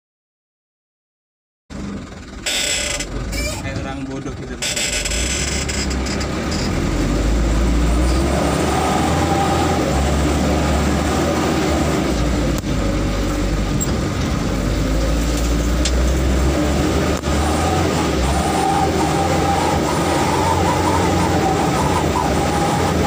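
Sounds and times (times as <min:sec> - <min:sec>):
off-road vehicle engine drone: 0:01.7 - 0:23.0.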